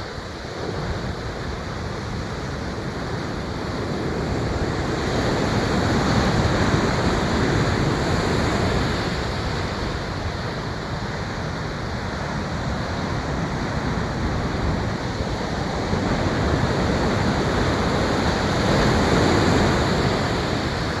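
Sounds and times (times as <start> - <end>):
ocean surf washing ashore: 0.0 - 21.0.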